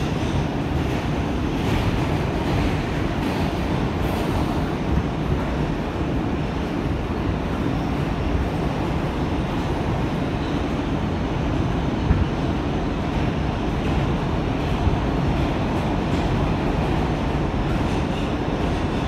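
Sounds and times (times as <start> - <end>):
subway train wheels on rail: 0.0 - 19.0.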